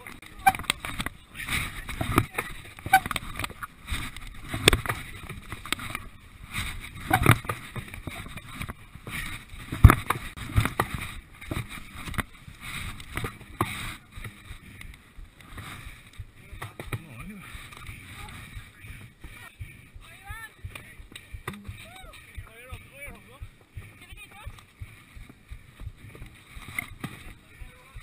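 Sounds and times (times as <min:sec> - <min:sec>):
muffled rustle of movement: 0:00.0 - 0:28.0.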